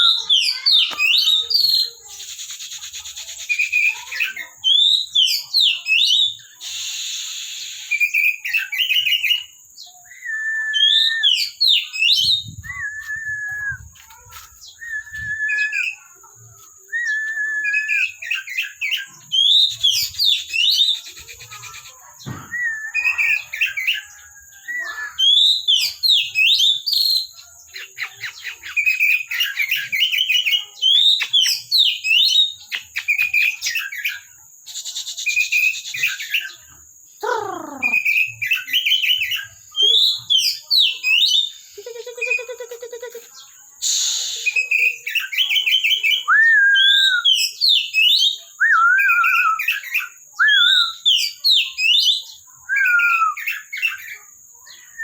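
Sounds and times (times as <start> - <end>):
songbird whistling and chattering: 0.0 - 55.0.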